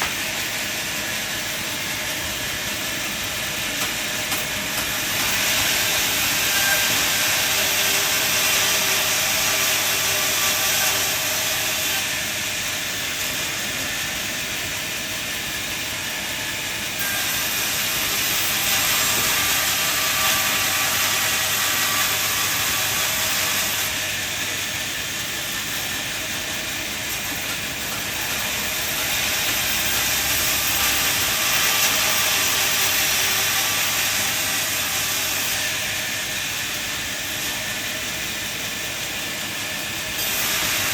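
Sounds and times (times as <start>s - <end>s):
saw cutting timber: 1.6s - 14.1s, 15.6s - 40.9s.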